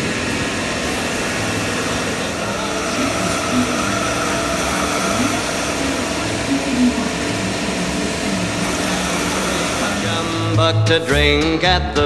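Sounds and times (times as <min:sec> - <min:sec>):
milking machine hum and hiss: 0:00.0 - 0:12.0.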